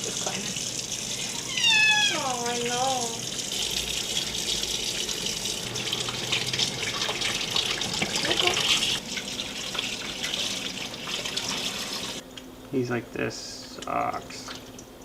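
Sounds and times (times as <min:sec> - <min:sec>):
tap water running into sink: 0:00.0 - 0:12.2.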